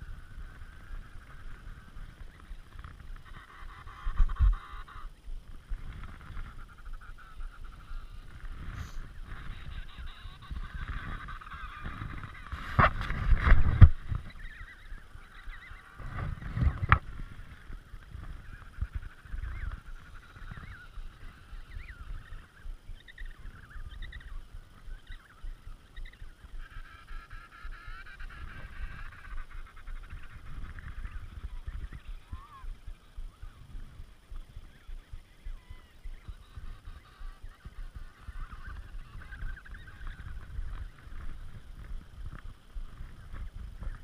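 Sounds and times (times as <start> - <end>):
low uneven rumble: 0.0 - 44.0
penguin colony calling: 0.0 - 44.0.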